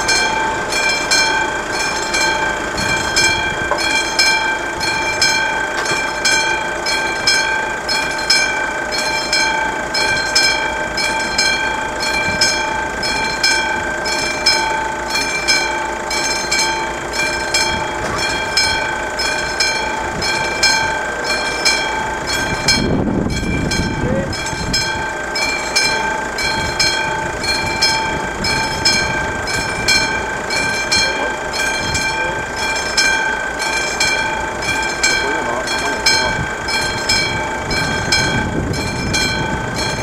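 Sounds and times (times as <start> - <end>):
level crossing bell ringing: 0.0 - 40.0.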